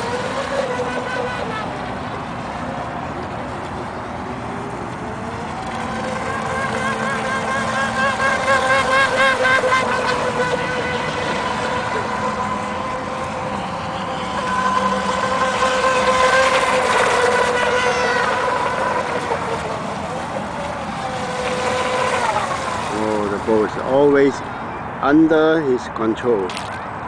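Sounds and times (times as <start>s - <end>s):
model boat motor whining: 0.0s - 25.6s.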